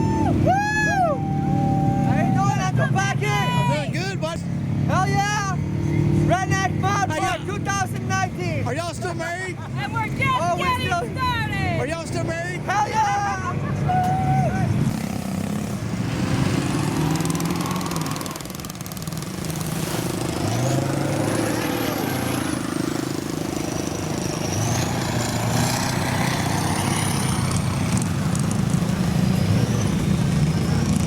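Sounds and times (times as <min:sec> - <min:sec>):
off-road vehicle engines revving: 0:00.0 - 0:31.0.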